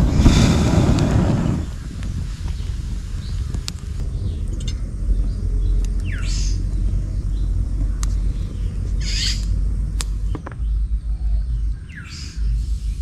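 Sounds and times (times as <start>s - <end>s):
campfire crackling: 0.0s - 11.6s
wind buffeting microphone: 0.0s - 13.0s.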